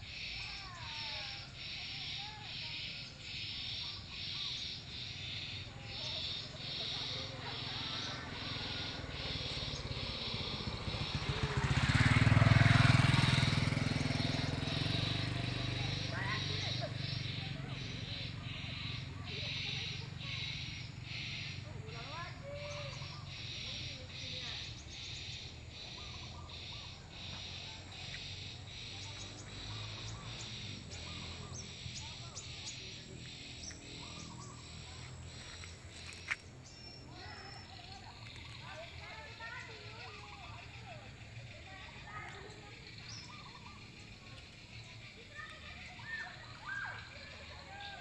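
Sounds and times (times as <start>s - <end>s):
faint bird chirps: 0.0s - 48.0s
insects buzzing: 0.0s - 48.0s
motorcycle engine passing by: 0.0s - 48.0s.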